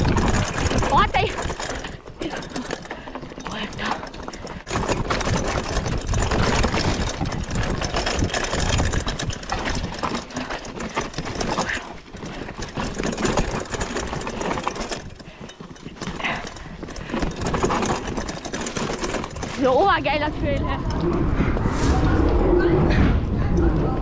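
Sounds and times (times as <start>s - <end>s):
bike rattling over bumps: 0.0s - 21.6s
tyre noise on dirt: 0.0s - 23.5s.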